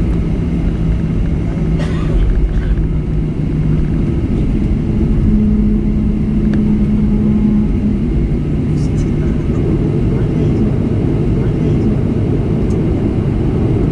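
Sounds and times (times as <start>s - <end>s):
jet engines droning: 0.0s - 13.9s.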